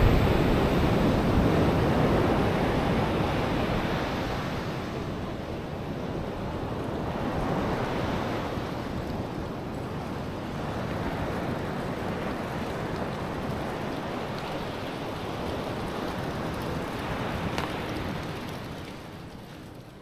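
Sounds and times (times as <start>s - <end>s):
ocean surf washing: 0.0s - 19.4s.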